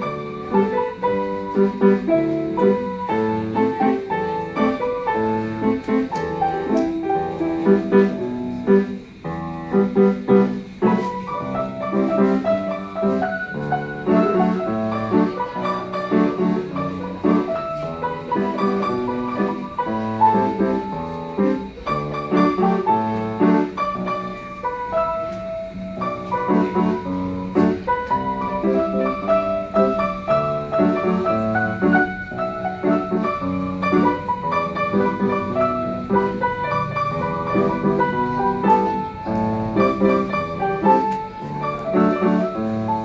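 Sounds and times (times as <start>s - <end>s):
piano piece with repeated chords: 0.0s - 43.0s.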